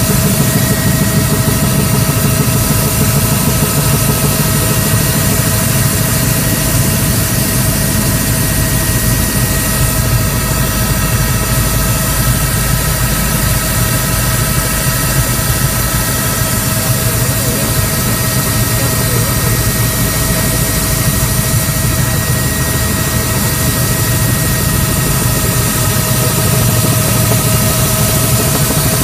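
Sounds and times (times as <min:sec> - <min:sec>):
helicopter engine and rotor din: 0:00.0 - 0:29.0.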